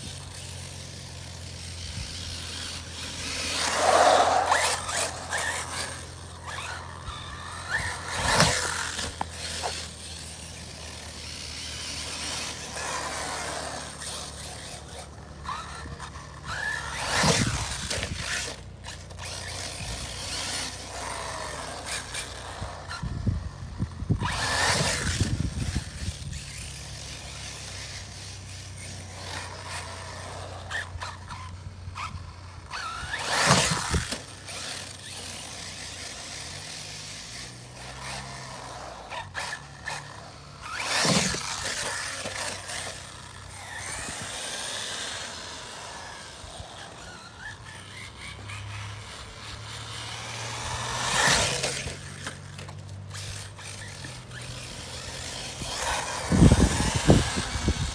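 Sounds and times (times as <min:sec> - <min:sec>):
electric motor whining: 0:00.0 - 0:57.9
tyres tearing through grass: 0:00.0 - 0:57.9.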